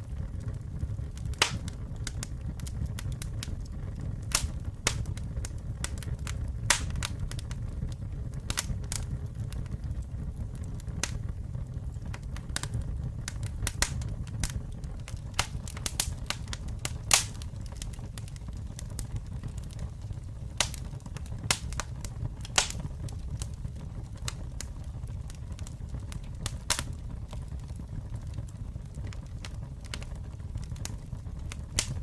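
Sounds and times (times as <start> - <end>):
low rumble of flames: 0.0 - 32.0
wood crackling and popping: 0.0 - 32.0.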